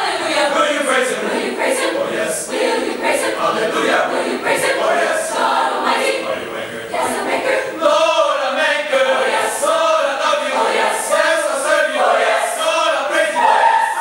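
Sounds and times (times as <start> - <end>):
choir singing in harmony: 0.0 - 14.0.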